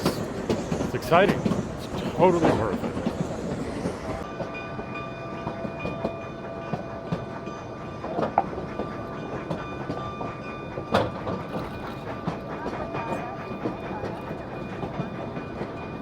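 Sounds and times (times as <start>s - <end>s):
train cars rolling on track: 0.0s - 16.0s.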